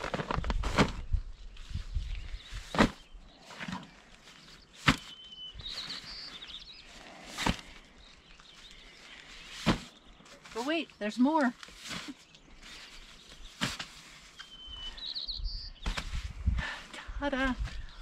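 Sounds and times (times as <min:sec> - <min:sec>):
stuff sacks rustling: 0:00.0 - 0:14.5, 0:15.9 - 0:16.8.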